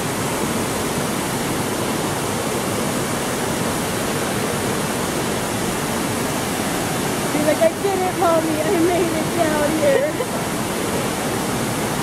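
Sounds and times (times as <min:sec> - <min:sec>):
water cascading down fountain steps: 0:00.0 - 0:12.0.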